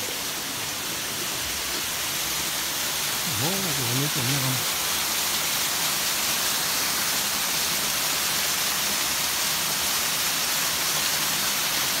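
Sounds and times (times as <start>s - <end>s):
waterfall over rocks: 0.0s - 12.0s.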